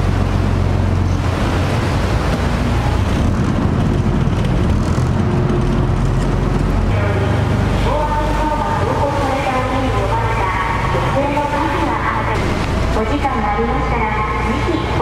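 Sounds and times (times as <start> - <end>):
boat engine humming: 0.0 - 15.0
water rushing along hull: 0.0 - 15.0.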